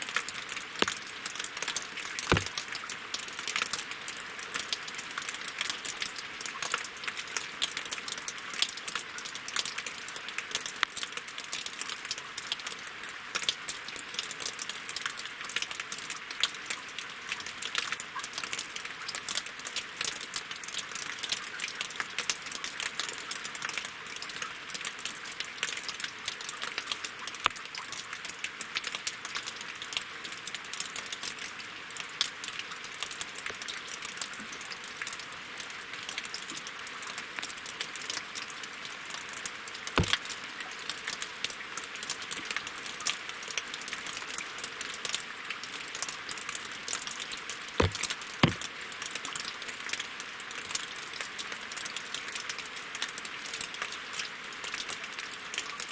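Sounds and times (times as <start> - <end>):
rain on logs and water: 0.0 - 55.9.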